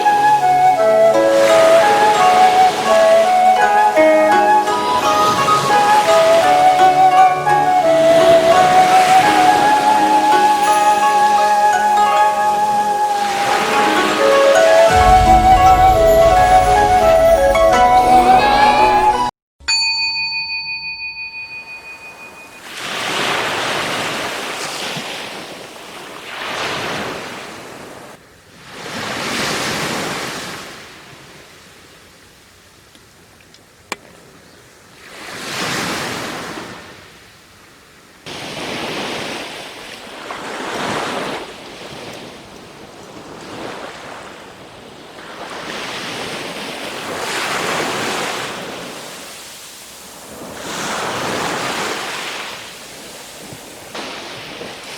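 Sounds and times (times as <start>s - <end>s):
waves breaking on a beach: 0.0s - 18.0s, 22.0s - 54.9s.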